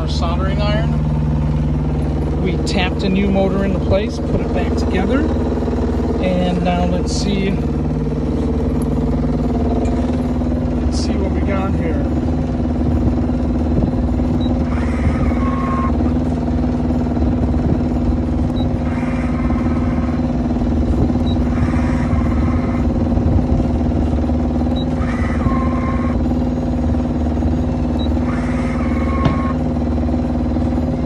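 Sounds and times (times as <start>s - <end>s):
drive motor whirring: 0.0s - 31.0s
engine drone: 0.0s - 31.0s.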